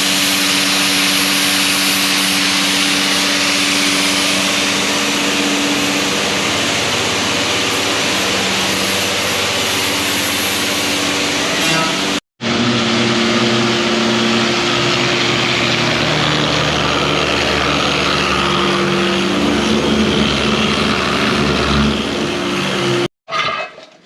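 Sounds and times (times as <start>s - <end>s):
workshop machine hissing and humming: 0.0s - 23.1s.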